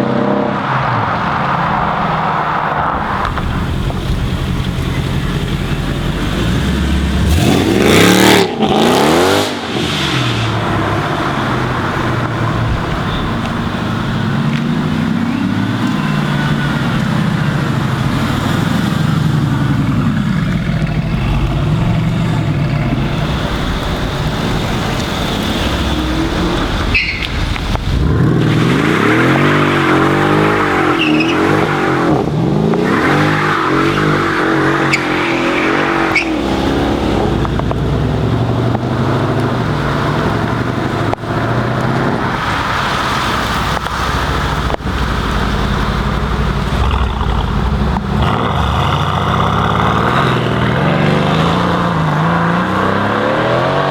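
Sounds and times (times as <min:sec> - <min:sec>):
car engine revving: 0:00.0 - 0:53.9
car engines rumbling: 0:00.0 - 0:53.9.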